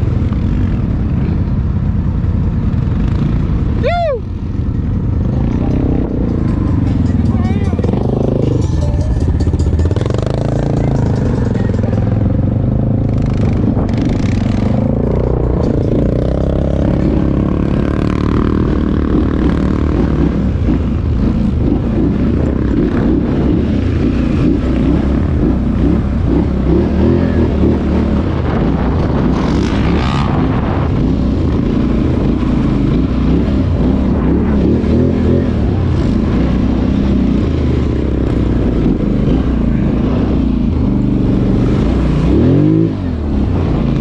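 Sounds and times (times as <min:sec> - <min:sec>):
quad engine revving: 0:05.2 - 0:08.8, 0:09.5 - 0:44.0.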